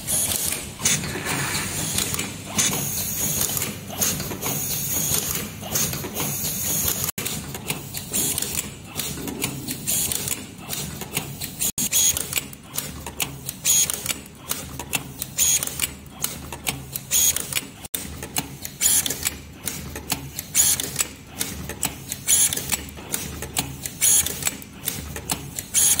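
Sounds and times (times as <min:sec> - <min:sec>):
machine mechanical clatter: 0:00.0 - 0:26.0
sharp machine clacks: 0:00.0 - 0:26.0.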